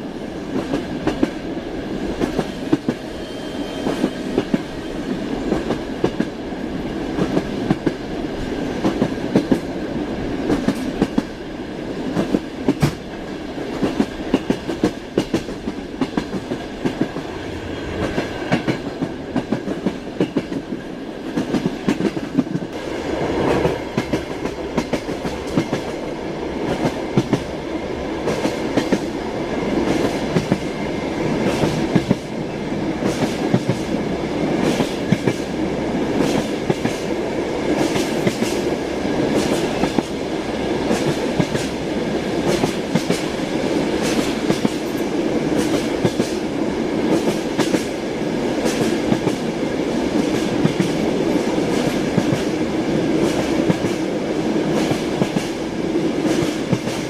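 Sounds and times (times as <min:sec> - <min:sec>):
train rolling rumble: 0:00.0 - 0:57.0.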